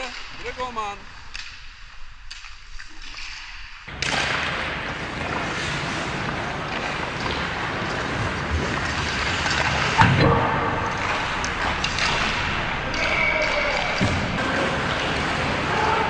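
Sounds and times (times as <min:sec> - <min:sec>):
hockey sticks clicking: 0:02.3 - 0:10.2, 0:10.9 - 0:16.0
skates scraping on ice: 0:02.4 - 0:10.2, 0:10.8 - 0:16.0.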